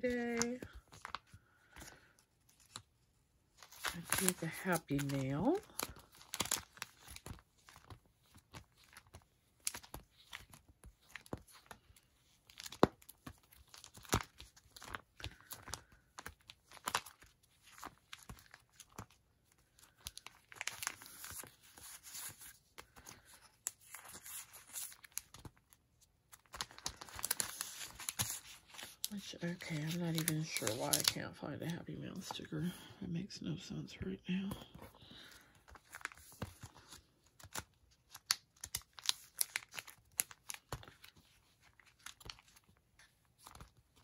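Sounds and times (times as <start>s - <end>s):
paper rustling and crinkling: 0.0s - 31.4s, 34.4s - 44.0s.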